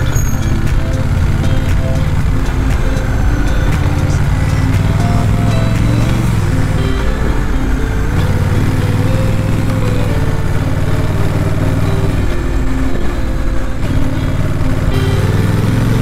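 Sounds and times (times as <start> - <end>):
background music: 0.0 - 16.0
motorcycle engine running: 0.0 - 16.0.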